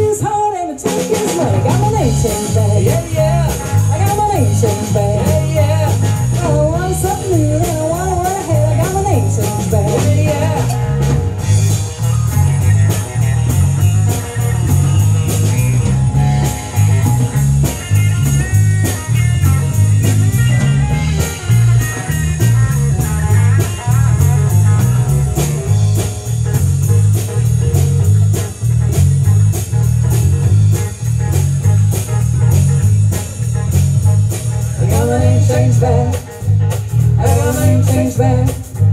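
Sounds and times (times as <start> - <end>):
bass guitar: 0.0 - 38.9
drums keeping a steady beat: 0.0 - 38.9
electric guitar notes: 0.0 - 38.9.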